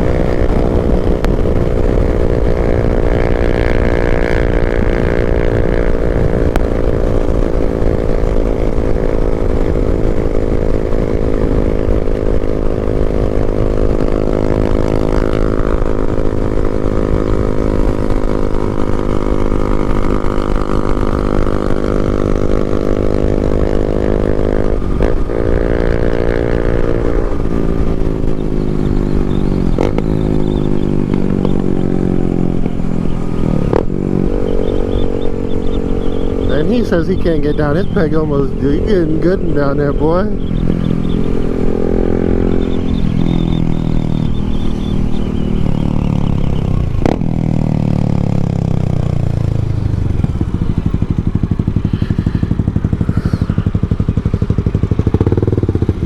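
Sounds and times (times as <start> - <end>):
motorcycle engine running: 0.0 - 56.0
wind rumbling on microphone: 0.0 - 56.0.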